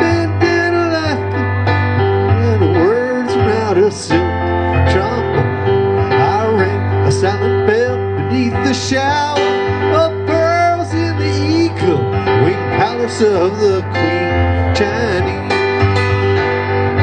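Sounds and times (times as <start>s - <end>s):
electronic keyboard playing chords: 0.0s - 17.0s
sliding keyboard melody: 0.0s - 17.0s
steady low bass: 0.0s - 17.0s.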